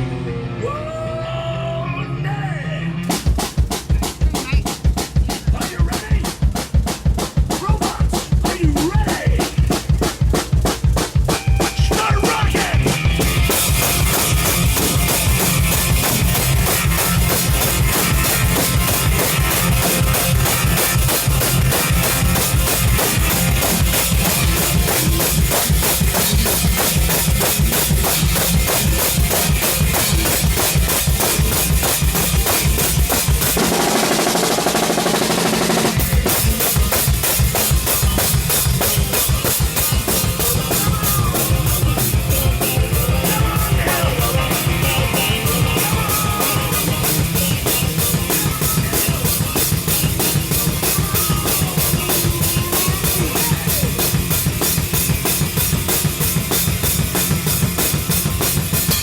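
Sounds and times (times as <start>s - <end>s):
fast heavy metal drum beat: 3.0s - 59.0s.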